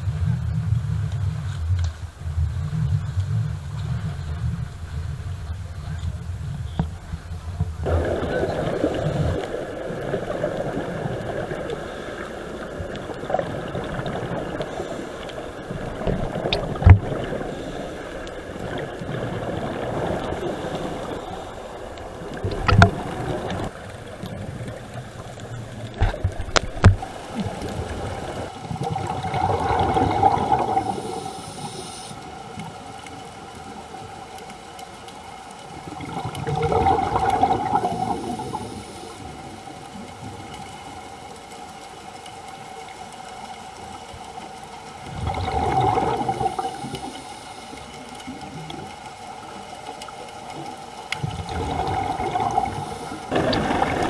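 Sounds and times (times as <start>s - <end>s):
water rushes: 0.0s - 54.0s
water sloshing and gurgling: 0.0s - 54.0s.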